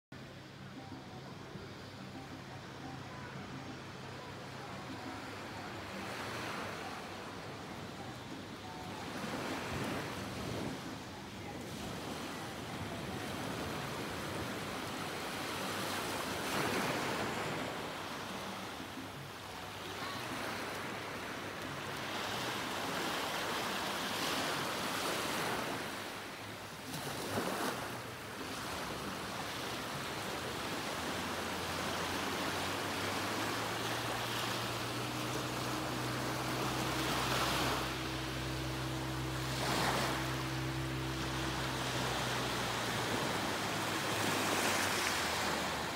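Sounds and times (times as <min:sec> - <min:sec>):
low engine hum: 0:00.1 - 0:45.9
small waves washing up beach: 0:02.8 - 0:45.9.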